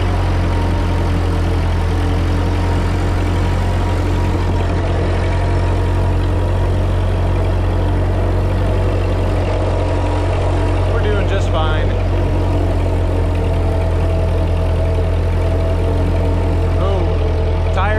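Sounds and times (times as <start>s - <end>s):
tractor engine running under load: 0.0s - 17.9s.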